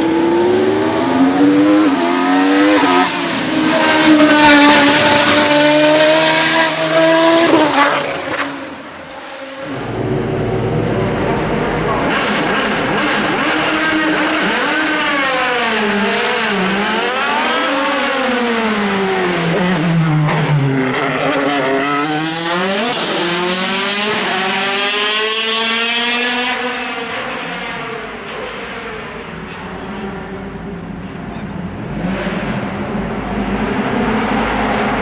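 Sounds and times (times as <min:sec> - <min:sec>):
race car accelerating through gears: 0:00.0 - 0:08.6, 0:09.6 - 0:35.0.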